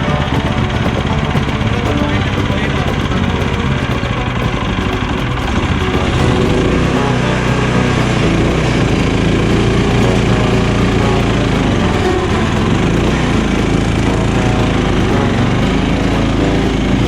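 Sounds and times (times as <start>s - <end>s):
sawmill gasoline engine running: 0.0s - 17.0s.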